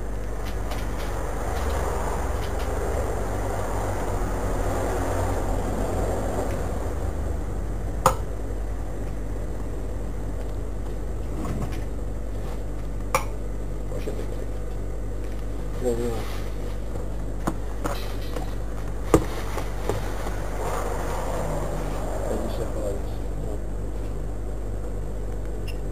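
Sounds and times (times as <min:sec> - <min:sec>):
low hum and rumble: 0:00.0 - 0:25.9.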